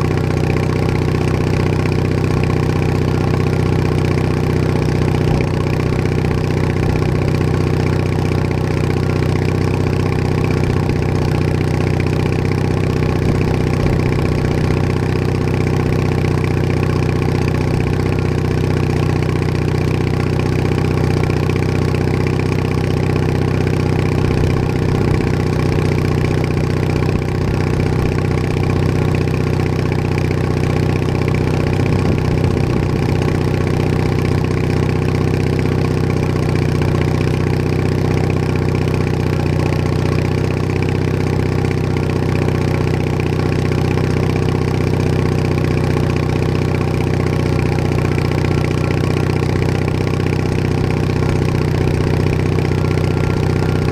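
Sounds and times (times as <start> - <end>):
garden tractor engine running: 0.0 - 53.9.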